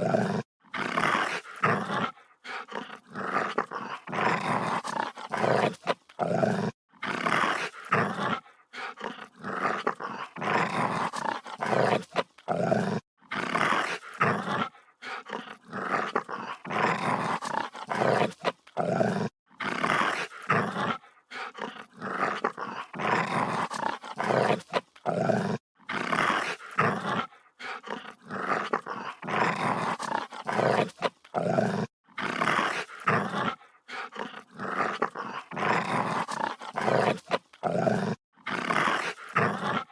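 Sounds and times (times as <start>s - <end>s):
dog growling: 0.0s - 39.9s.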